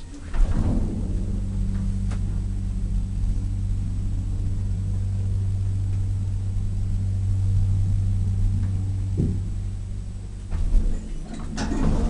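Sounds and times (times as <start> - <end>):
elevator hum: 0.0 - 12.0.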